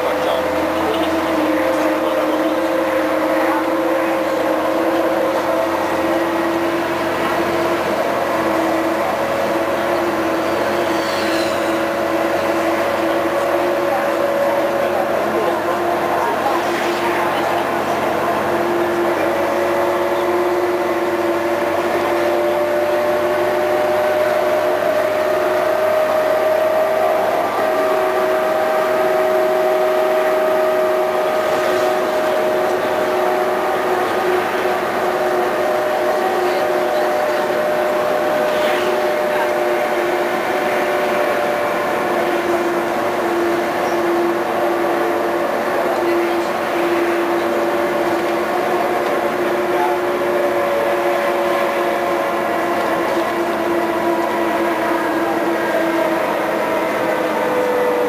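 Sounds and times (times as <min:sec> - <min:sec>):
bus engine drone with whine: 0:00.0 - 0:58.0
road noise: 0:00.0 - 0:58.0.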